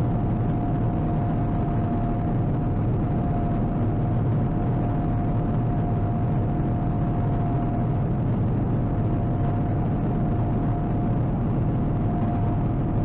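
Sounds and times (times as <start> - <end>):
combine engine drone: 0.0 - 13.0
constant machine whine: 0.0 - 13.0.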